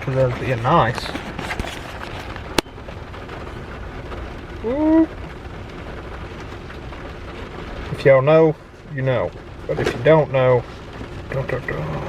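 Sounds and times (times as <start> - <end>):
rain on car: 0.0 - 12.0
road noise inside car: 0.0 - 12.0.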